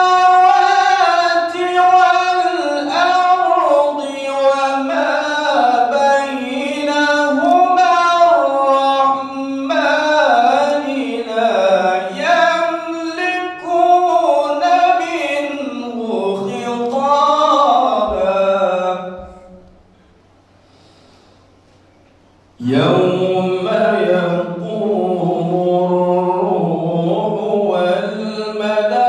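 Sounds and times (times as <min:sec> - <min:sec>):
man reciting in melodic chant: 0:00.0 - 0:19.6, 0:22.6 - 0:29.0.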